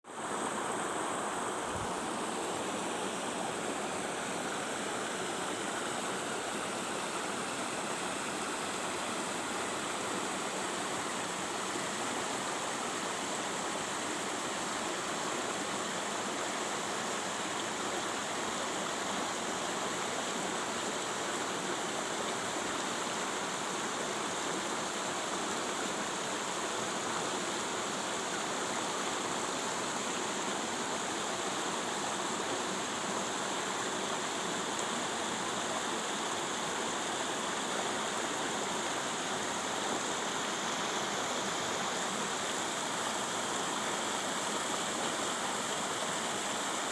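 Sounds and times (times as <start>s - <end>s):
flowing water rushing: 0.1s - 46.9s.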